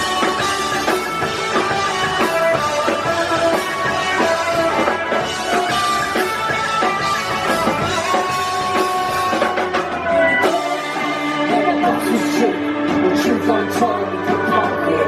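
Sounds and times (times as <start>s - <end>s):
drum kit: 0.0s - 15.0s
electric guitars: 0.0s - 15.0s.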